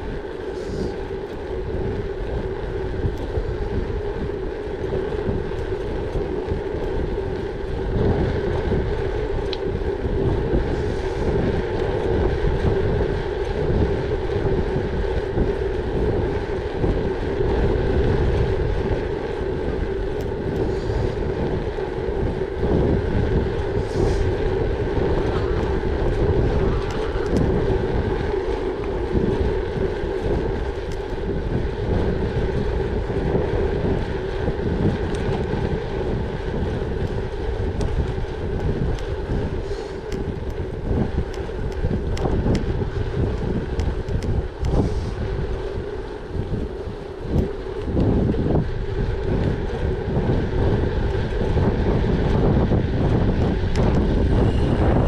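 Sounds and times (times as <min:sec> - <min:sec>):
steady droning hum: 0:00.0 - 0:55.0
wind buffeting microphone: 0:00.0 - 0:55.0.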